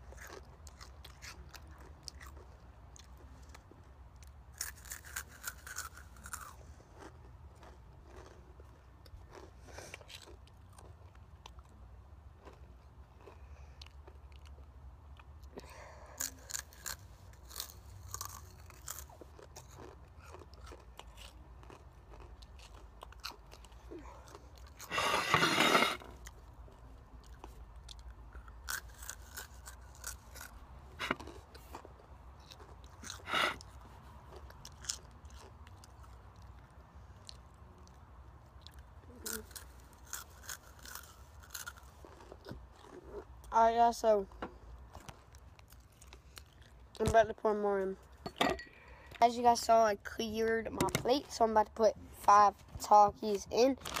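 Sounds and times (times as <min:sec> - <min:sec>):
person chewing crunchy chips: 0:00.0 - 0:47.0.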